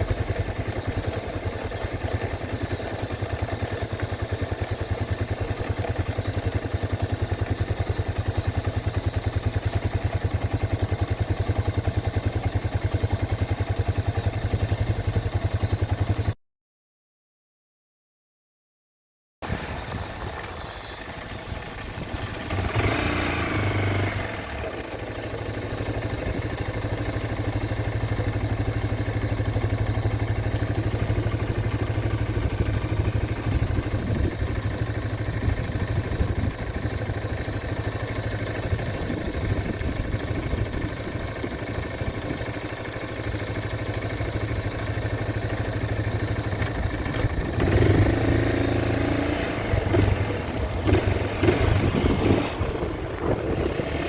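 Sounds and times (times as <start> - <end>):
motorcycle engine running: 0.0 - 16.4, 19.4 - 54.0.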